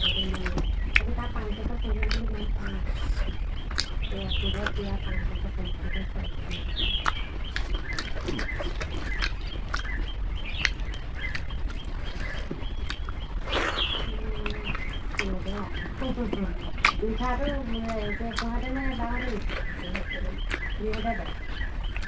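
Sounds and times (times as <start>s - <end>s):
chewing with mouth clicks: 0.0s - 4.8s, 6.6s - 22.0s
birds chirping: 0.0s - 22.0s.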